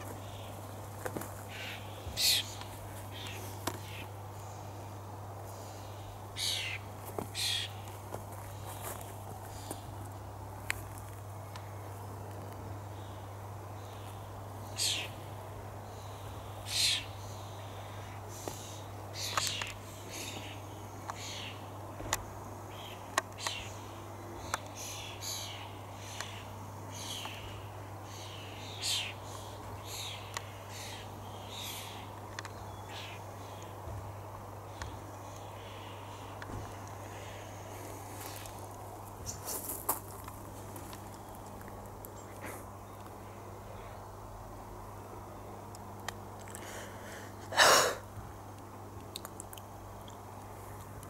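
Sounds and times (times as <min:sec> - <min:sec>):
birds chirping: 0:00.0 - 0:44.2
steady low hum: 0:00.0 - 0:51.0.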